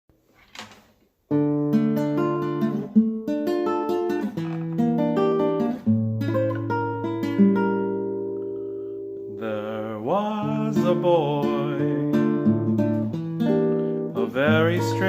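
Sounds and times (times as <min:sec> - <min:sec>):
acoustic guitar picking and strumming: 0:01.3 - 0:15.0.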